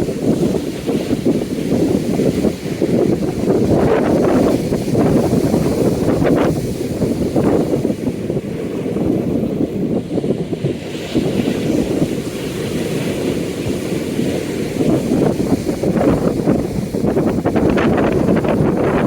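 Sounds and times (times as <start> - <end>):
waves washing: 0.0 - 19.0
wind buffeting microphone: 0.0 - 19.0.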